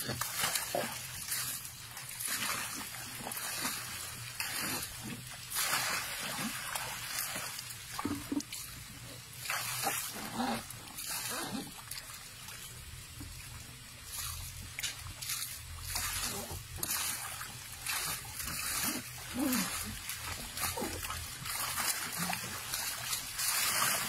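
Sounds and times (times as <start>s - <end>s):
elephant splashing water: 0.0s - 24.0s.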